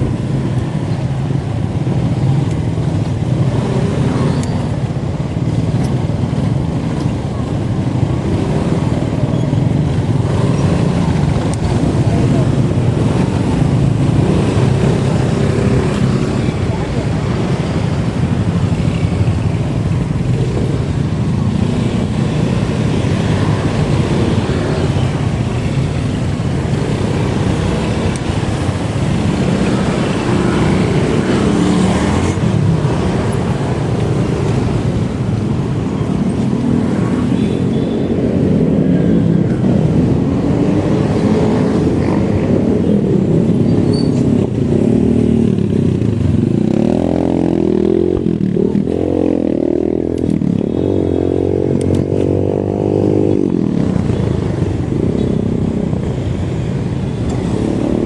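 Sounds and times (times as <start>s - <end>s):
vehicle engine: 0.0s - 58.0s.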